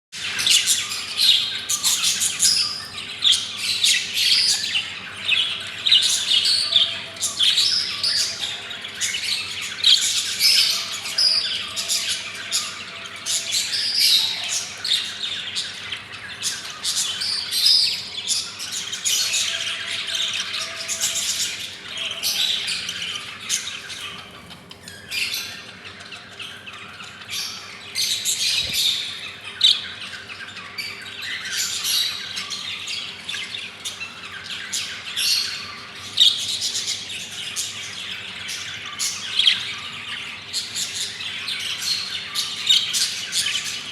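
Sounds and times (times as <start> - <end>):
baby budgerigars chirping: 0.2 - 43.9.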